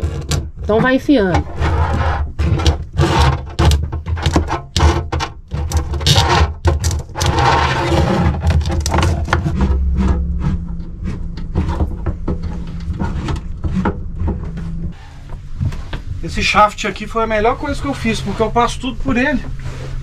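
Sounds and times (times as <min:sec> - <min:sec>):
hose knocking and scraping on wood: 0:00.0 - 0:16.2
low steady hum: 0:00.0 - 0:20.0.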